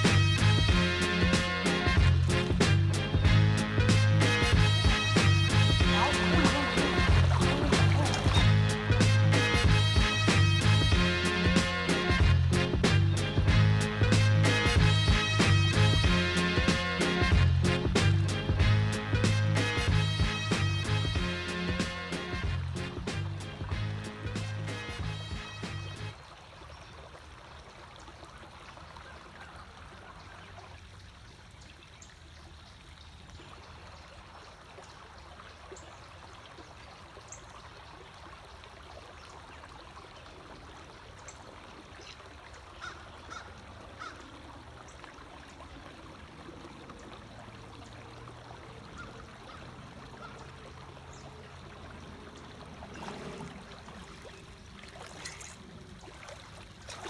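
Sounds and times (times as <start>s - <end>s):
creek water running over rocks: 0.0s - 57.0s.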